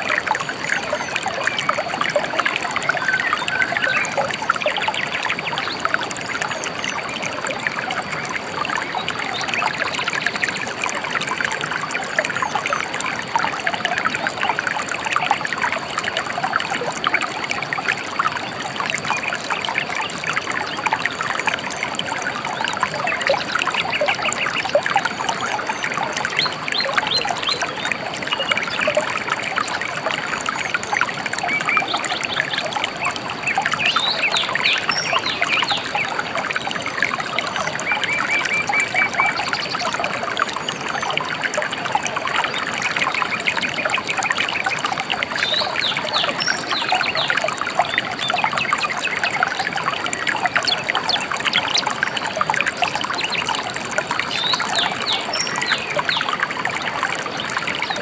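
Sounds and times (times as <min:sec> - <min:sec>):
river water babbling: 0:00.0 - 0:58.0.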